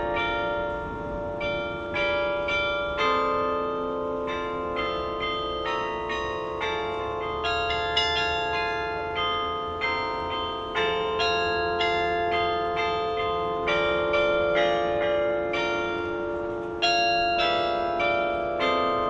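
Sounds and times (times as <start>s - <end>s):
tower bells playing melody: 0.0s - 19.0s.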